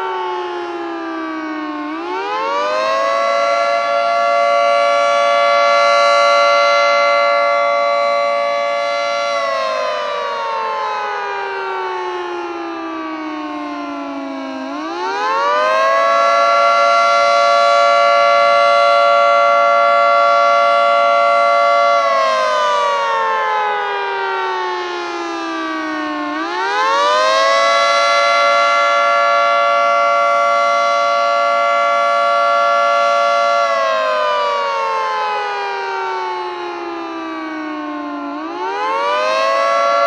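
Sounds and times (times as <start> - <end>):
dual-tone warning siren: 0.0 - 40.0.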